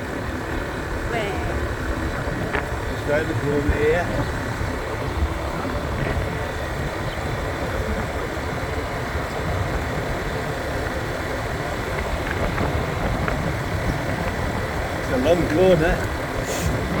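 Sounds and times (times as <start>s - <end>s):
motorbike engine running: 0.0s - 17.0s
wind and road noise: 0.0s - 17.0s.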